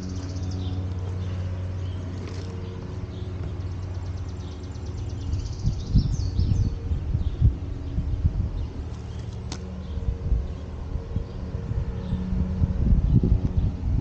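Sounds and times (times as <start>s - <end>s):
birds chirping: 0.0s - 14.0s
low motor hum: 0.0s - 14.0s.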